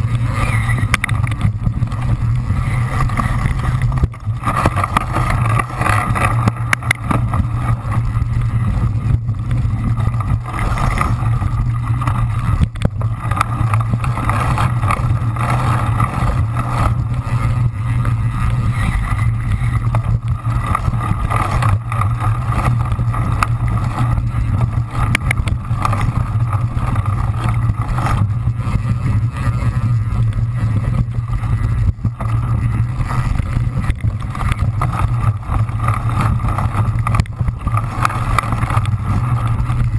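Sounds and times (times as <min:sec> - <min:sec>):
bicycle tyre and frame noise: 0:00.0 - 0:39.9
wind on microphone: 0:00.0 - 0:39.9.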